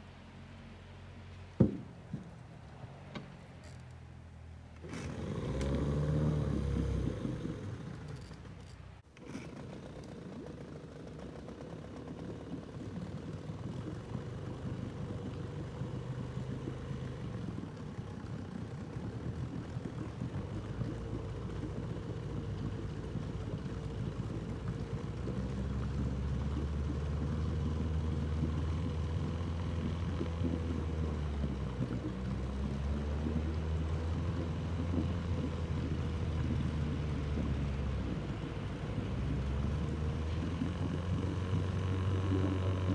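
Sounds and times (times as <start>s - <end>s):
small outboard motor running: 3.7s - 42.9s.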